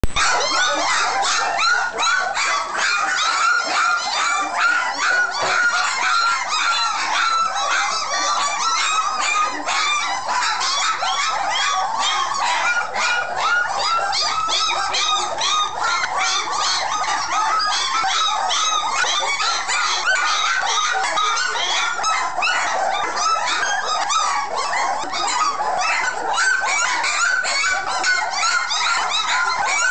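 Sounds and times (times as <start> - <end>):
puppies whining and yelping: 0.0 - 29.9.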